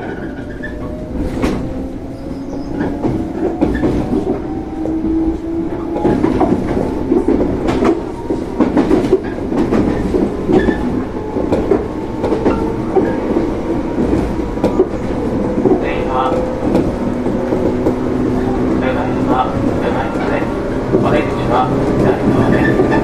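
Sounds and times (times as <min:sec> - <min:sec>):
train wheels clicking over rail joints: 0:00.0 - 0:18.5.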